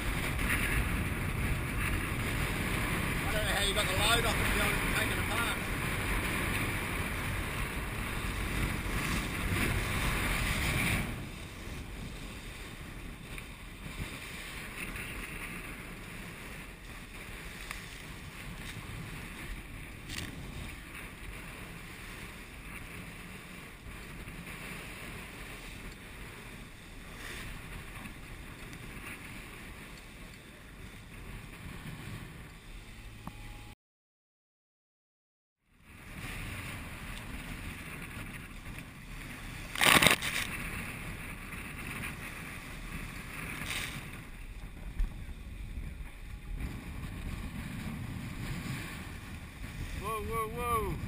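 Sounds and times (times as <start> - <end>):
wind buffeting microphone: 0.0 - 33.3, 35.7 - 51.0
water rushing past hull: 0.0 - 33.7, 35.8 - 51.0.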